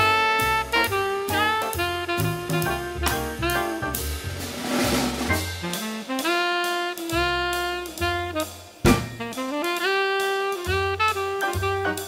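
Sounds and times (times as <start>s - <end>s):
saxophone melody: 0.0s - 4.0s, 5.3s - 12.0s
bass line: 0.0s - 12.0s.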